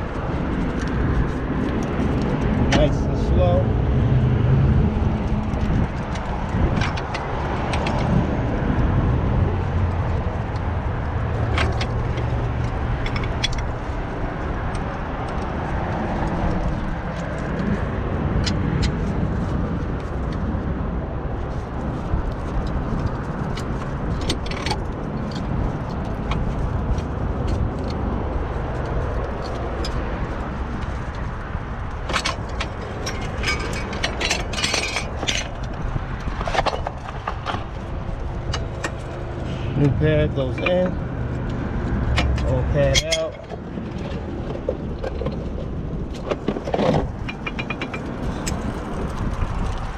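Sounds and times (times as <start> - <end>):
wind rumble on microphone: 0.0 - 49.9.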